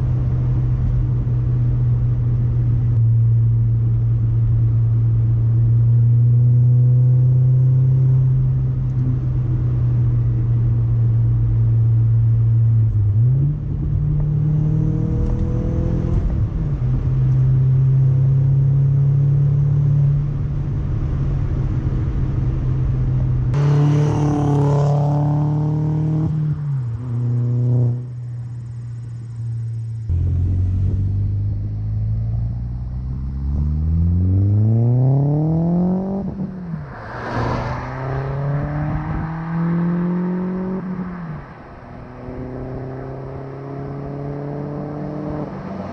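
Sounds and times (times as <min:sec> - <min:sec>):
car engine revving: 0:05.2 - 0:21.0, 0:22.4 - 0:45.9.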